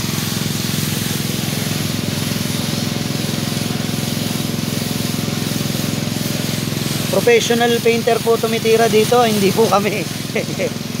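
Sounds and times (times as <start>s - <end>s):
motor running with fast pulse: 0.0s - 11.0s
spray gun hissing: 0.0s - 11.0s.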